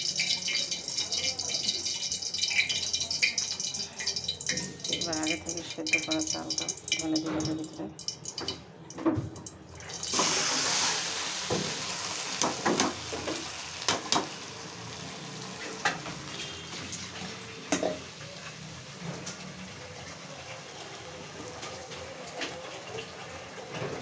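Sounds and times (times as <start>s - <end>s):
rice sizzling in hot oil: 0.0s - 6.9s, 9.9s - 24.0s.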